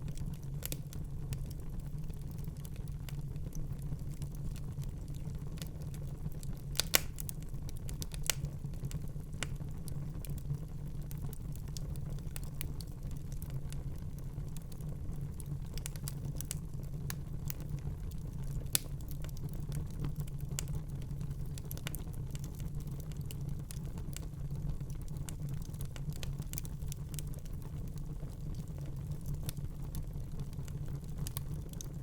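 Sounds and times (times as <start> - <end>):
fire crackles and pops: 0.0 - 32.0
low rumble of flames: 0.0 - 32.0.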